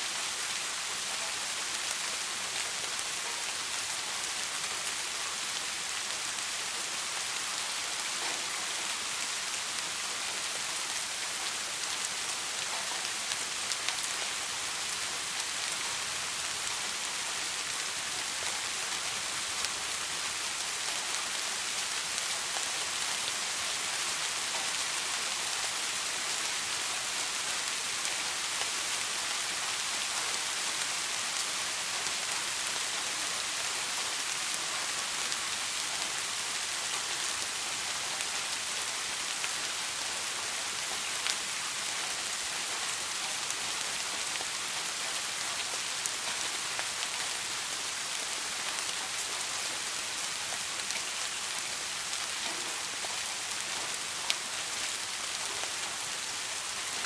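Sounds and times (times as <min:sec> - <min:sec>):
soft steady rain: 0:00.0 - 0:57.0.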